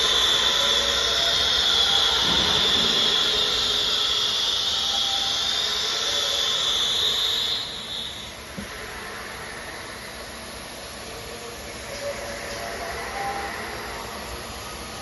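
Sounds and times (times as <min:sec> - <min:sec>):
router spindle high whine: 0:00.0 - 0:15.0.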